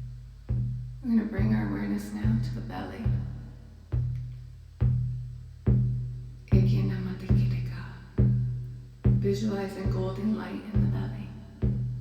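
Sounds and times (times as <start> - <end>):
hand drum booming beat: 0.0 - 12.0.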